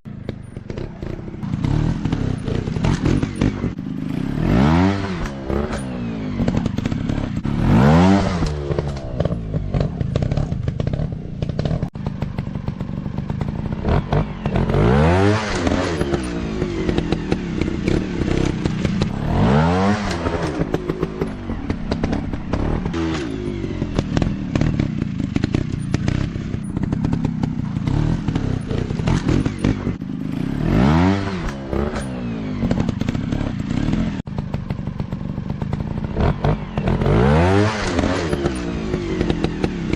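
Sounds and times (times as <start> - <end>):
dirt bike engine revving: 0.1 - 39.9.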